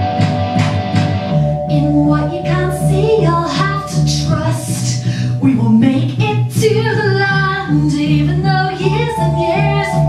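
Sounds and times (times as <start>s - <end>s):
instrumental accompaniment with bass: 0.0s - 10.0s
woman singing into microphone: 1.7s - 10.0s.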